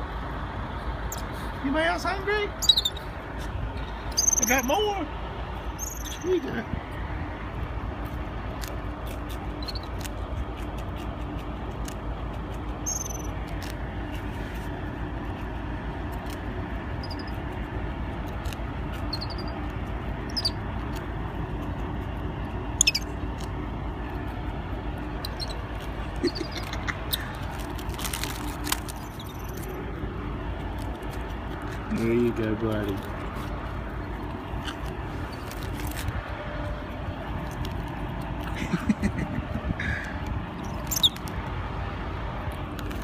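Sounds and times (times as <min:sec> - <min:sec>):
ground squirrels chirping: 0:01.0 - 0:05.0, 0:05.6 - 0:06.6, 0:08.5 - 0:14.1, 0:14.8 - 0:41.6.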